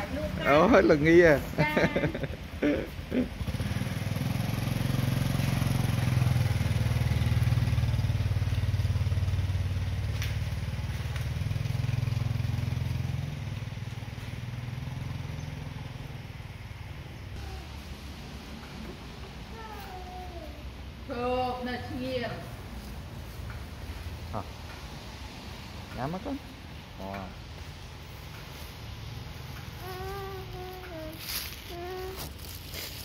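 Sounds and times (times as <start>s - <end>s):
small motorbike engine: 0.0s - 33.0s.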